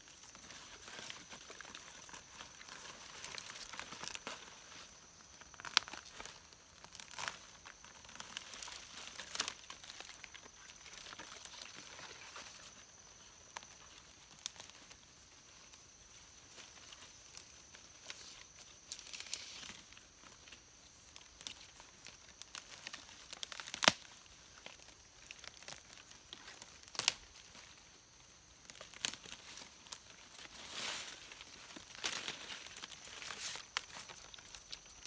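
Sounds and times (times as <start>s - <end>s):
hands rustling leaves: 0.0s - 35.0s
small crackles: 0.0s - 35.0s
roots tearing from soil: 0.1s - 15.0s, 17.2s - 35.0s.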